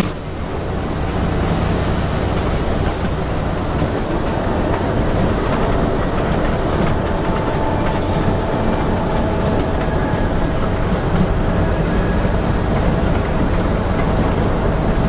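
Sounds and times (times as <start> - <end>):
bus engine rumble: 0.0 - 15.0
rattling clicks from bus body: 0.0 - 15.0
road noise: 0.0 - 15.0.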